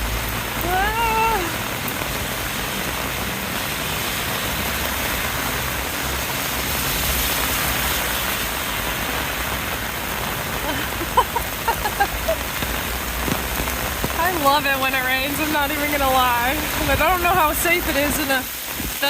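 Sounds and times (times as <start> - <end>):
heavy rain on umbrella: 0.0 - 19.0.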